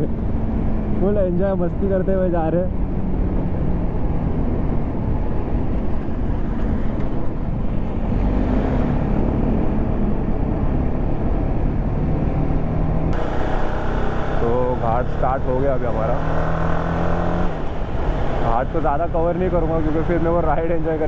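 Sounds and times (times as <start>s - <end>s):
motorcycle engine cruising: 2.2s - 21.0s.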